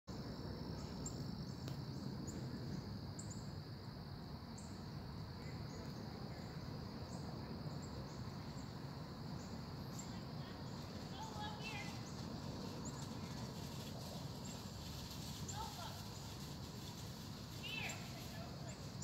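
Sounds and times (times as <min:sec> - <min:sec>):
high insect trill: 0:00.1 - 0:19.0
low outdoor rumble: 0:00.1 - 0:19.0.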